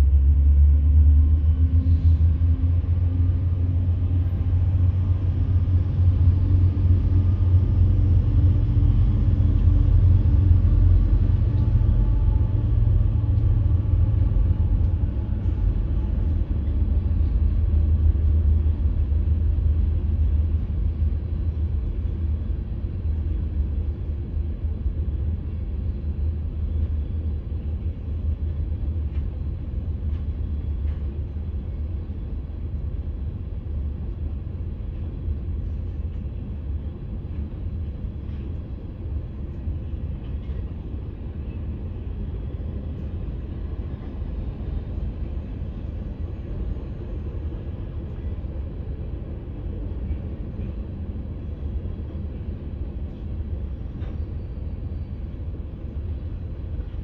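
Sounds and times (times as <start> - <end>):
diesel locomotive rumble: 0.0 - 57.0
train wheels rolling on rails: 0.0 - 57.0.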